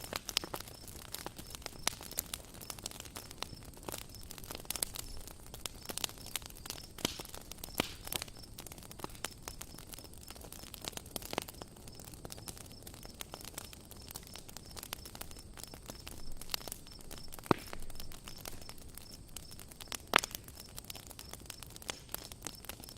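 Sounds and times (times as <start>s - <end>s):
campfire crackling and popping: 0.0s - 22.9s.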